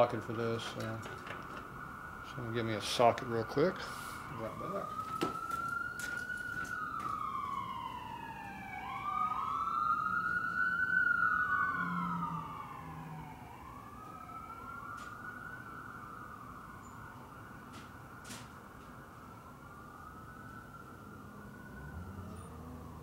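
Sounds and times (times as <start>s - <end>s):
emergency sirens wailing: 0.0s - 23.0s.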